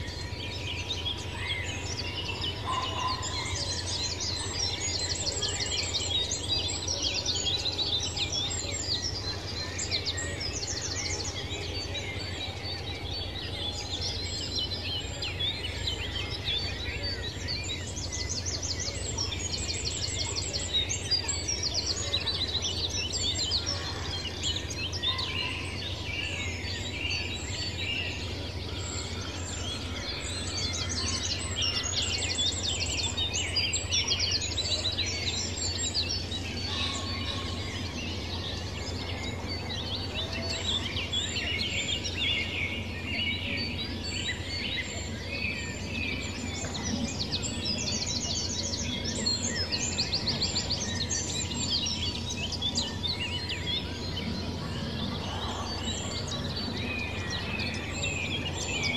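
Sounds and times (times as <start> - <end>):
birds chirping and singing: 0.0 - 58.9.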